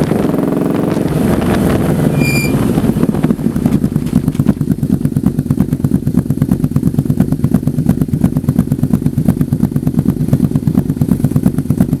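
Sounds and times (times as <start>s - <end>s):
motorcycle engine pulsing exhaust: 0.0s - 12.0s.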